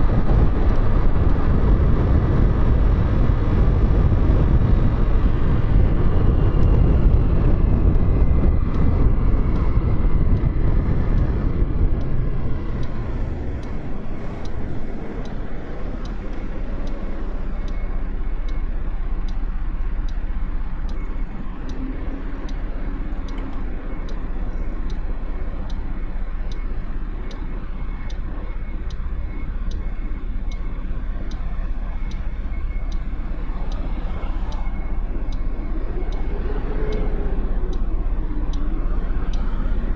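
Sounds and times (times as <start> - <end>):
wind noise: 0.0 - 39.9
faint regular ticking: 0.1 - 39.9.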